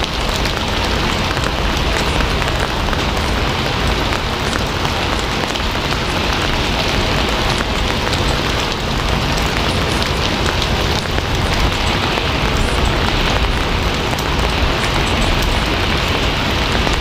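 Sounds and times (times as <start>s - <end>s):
raindrop ticks: 0.0s - 17.0s
steady rain: 0.0s - 17.0s.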